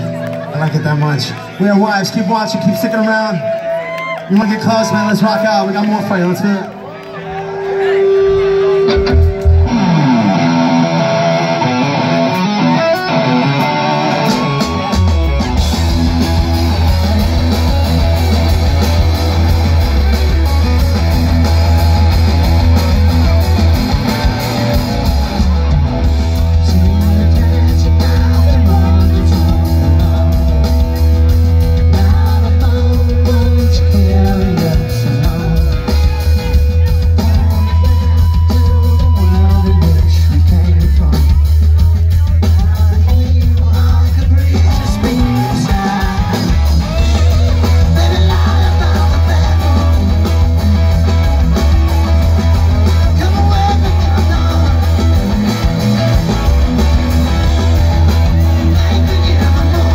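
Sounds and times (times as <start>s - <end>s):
electric guitars: 0.0s - 59.9s
bass and drums: 8.0s - 59.9s.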